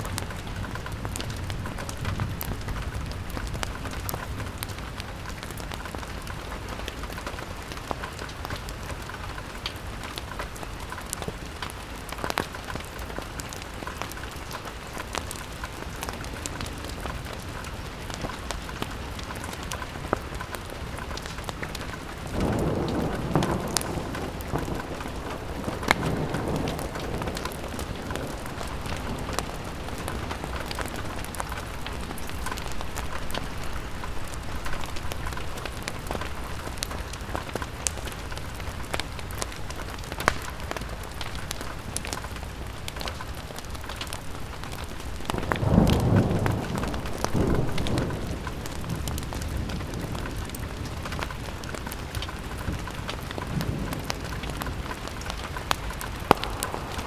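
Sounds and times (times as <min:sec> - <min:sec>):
rain pattering on window glass: 0:00.0 - 0:57.0.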